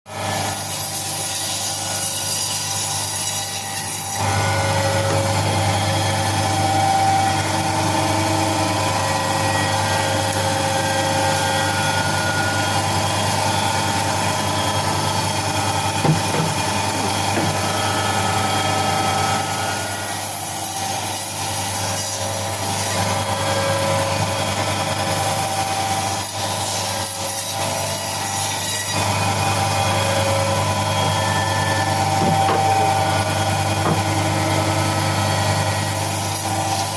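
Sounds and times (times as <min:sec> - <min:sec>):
blade sawing through chicken: 0:00.1 - 0:36.9
cutting machine motor hum: 0:04.2 - 0:36.9.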